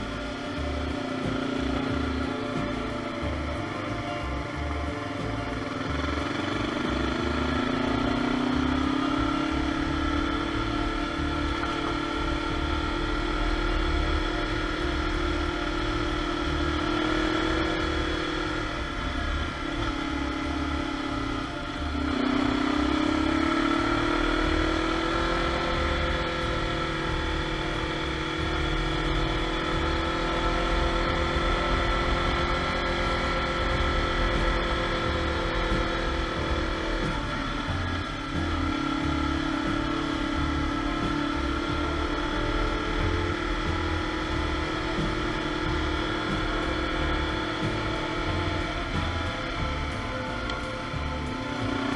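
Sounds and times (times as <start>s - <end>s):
motorcycle engine under throttle: 0.0s - 51.9s.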